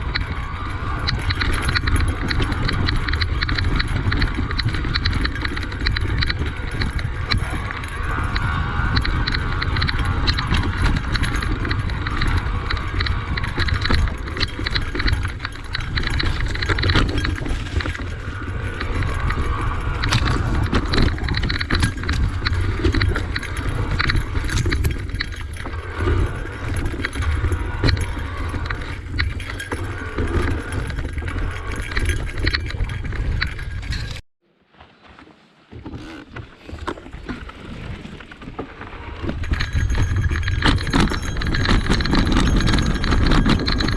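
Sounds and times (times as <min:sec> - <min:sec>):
bike rattling and knocking: 0:00.0 - 0:34.2, 0:38.2 - 0:43.9
wind on microphone: 0:00.0 - 0:34.2, 0:37.2 - 0:43.9.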